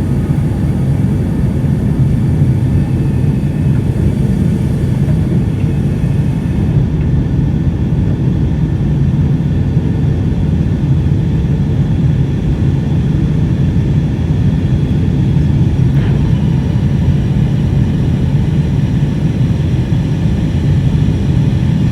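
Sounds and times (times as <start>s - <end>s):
airliner cabin rumble at takeoff: 0.0s - 9.2s, 11.7s - 21.9s.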